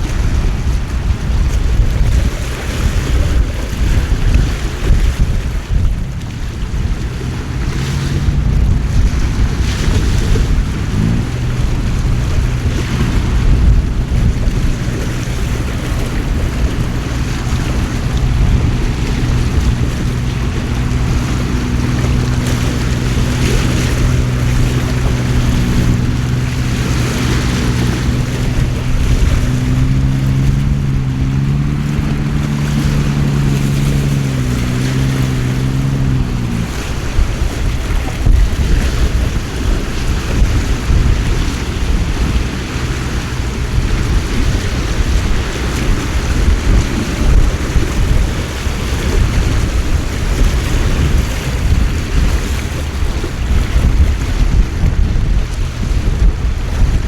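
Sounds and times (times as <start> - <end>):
boat engine running: 0.0 - 57.0
wind buffeting microphone: 0.0 - 57.0.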